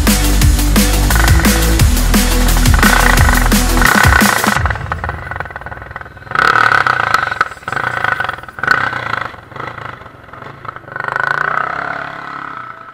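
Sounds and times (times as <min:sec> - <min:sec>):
motorcycle engine revving: 0:00.1 - 0:12.9.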